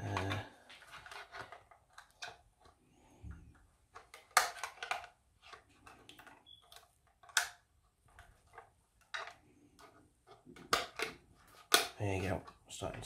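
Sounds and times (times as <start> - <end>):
plastic clicks and scrapes: 0.0 - 12.7.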